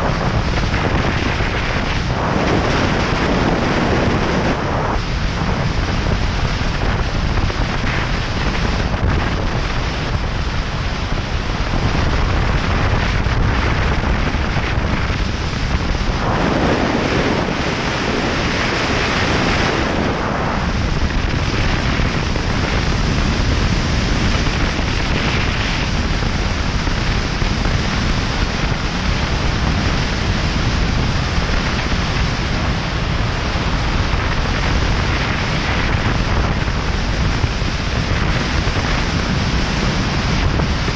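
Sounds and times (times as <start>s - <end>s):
wind roaring on microphone: 0.0s - 40.9s.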